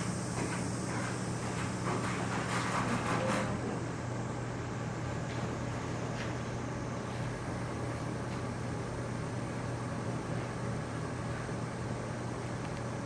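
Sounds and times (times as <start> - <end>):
ventilation hum and hiss: 0.0 - 13.0.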